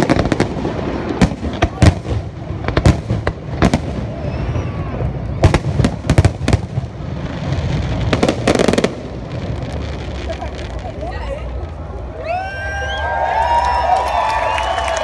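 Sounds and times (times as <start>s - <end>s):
fireworks bursting with sharp bangs: 0.0s - 12.2s
rapid fireworks crackling: 0.0s - 12.2s.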